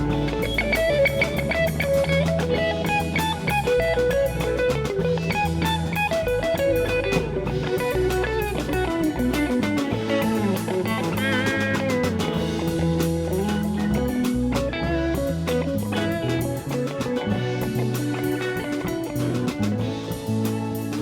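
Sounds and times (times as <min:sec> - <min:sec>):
bass guitar: 0:00.0 - 0:21.0
drum kit: 0:00.0 - 0:21.0
electric guitar melody: 0:00.0 - 0:21.0.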